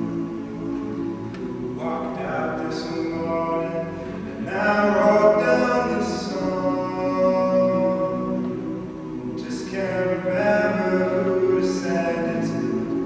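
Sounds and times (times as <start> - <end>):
male a cappella group singing: 0.0 - 13.0.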